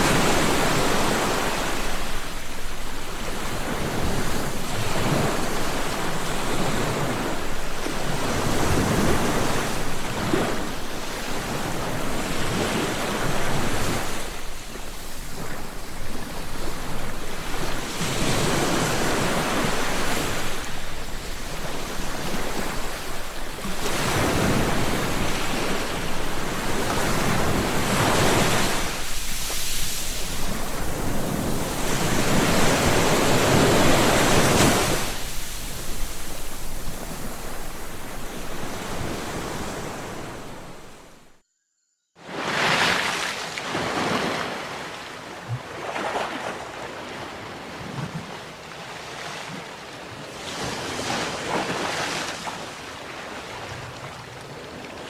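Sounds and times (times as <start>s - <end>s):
sea waves breaking: 0.0s - 41.3s, 42.2s - 55.0s.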